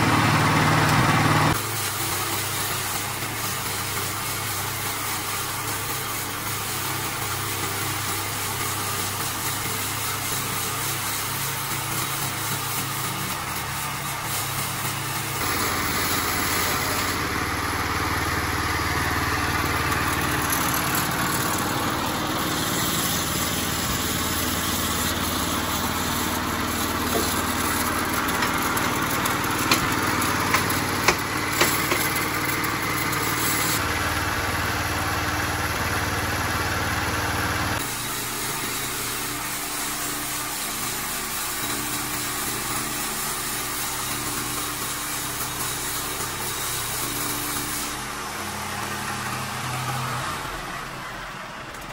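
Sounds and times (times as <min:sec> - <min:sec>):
sawmill running: 0:00.0 - 0:51.9.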